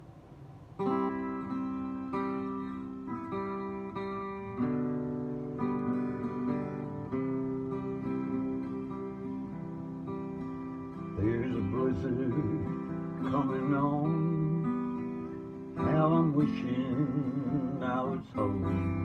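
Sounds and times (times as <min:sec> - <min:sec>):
acoustic guitar strumming chords: 0:00.7 - 0:19.0.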